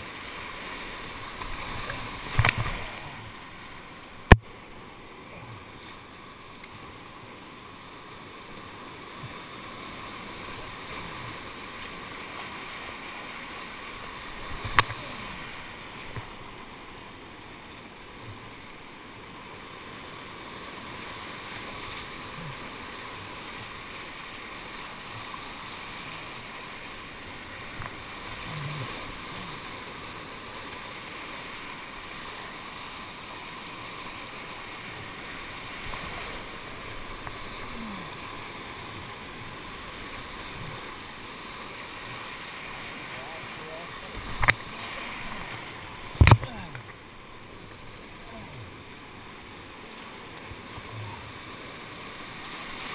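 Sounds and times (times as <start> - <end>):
whitewater rushing: 0.0 - 52.9.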